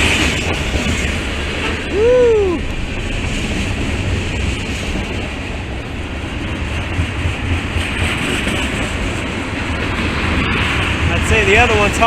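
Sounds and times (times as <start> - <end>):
freight trains rolling past: 0.0 - 12.0.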